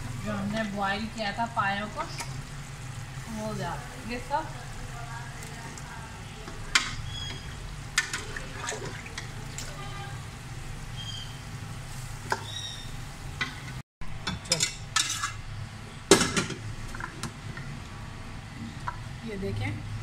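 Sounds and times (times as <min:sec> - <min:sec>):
sizzling in a pot: 0:00.0 - 0:13.8, 0:14.6 - 0:20.0.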